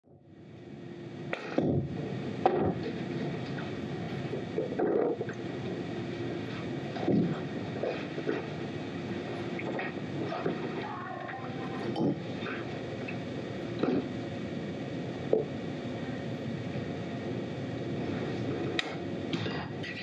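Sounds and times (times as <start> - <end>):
steady rumbling noise: 0.0 - 20.0.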